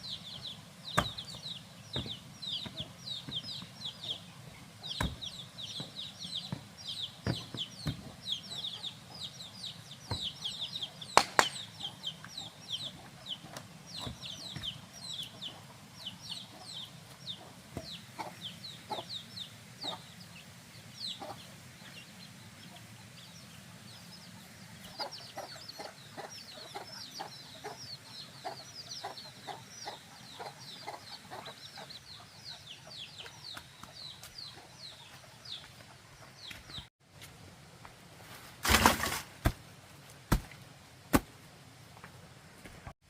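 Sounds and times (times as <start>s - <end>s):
chickens chirping: 0.0s - 36.9s.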